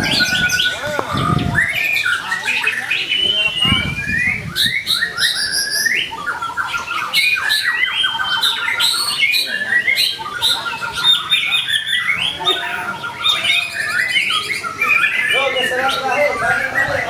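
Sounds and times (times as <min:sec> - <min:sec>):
songbird singing whistled trills: 0:00.0 - 0:17.0.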